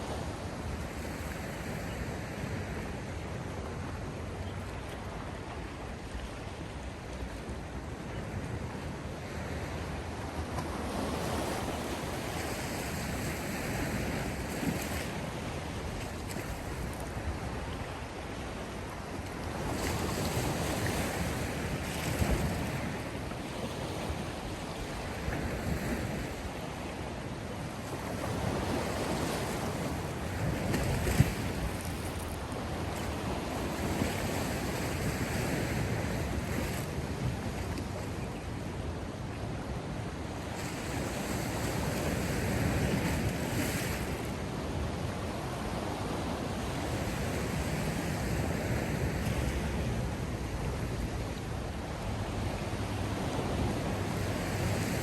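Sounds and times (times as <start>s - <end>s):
sea waves breaking on shore: 0.0s - 55.0s
wind: 0.0s - 55.0s.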